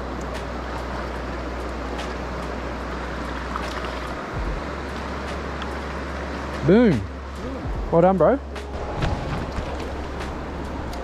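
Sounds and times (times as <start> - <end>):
river rushing over stones: 0.0 - 11.0.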